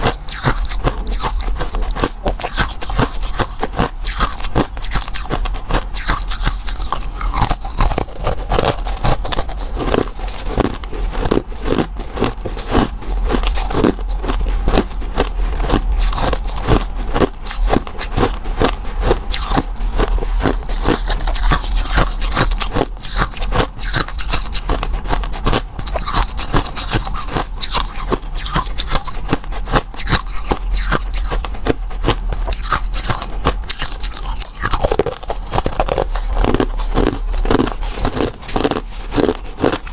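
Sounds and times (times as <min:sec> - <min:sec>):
crunching and chewing frozen treat: 0:00.0 - 0:39.9
steady low hum: 0:00.0 - 0:39.9.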